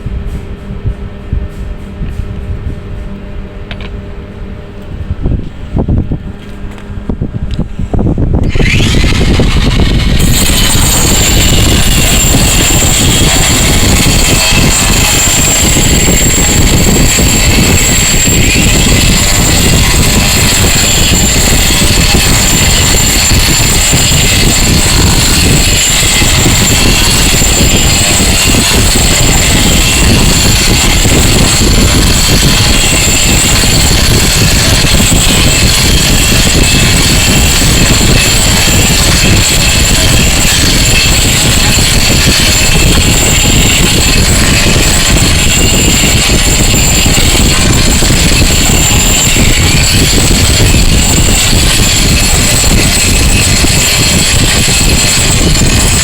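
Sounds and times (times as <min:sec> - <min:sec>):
angle grinder grinding concrete: 0:08.3 - 0:56.0.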